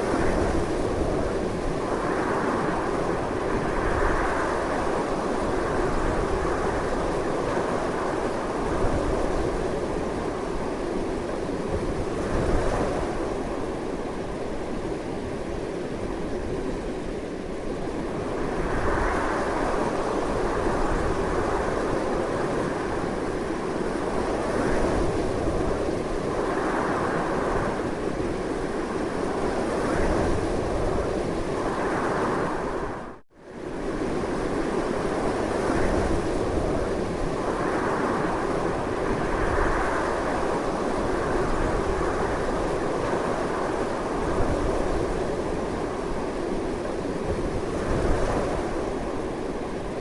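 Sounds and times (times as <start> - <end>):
strong wind rushing: 0.0 - 50.0.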